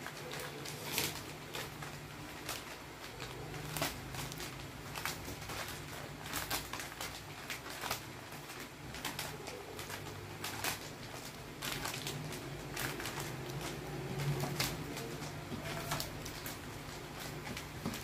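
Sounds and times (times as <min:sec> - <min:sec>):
plastic sachets crinkling: 0:00.0 - 0:18.0.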